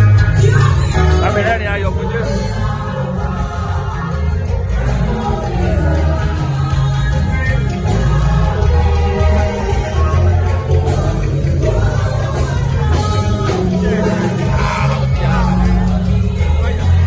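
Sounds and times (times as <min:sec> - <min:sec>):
steady bass line: 0:00.0 - 0:17.0
voices singing worship music: 0:00.0 - 0:17.0.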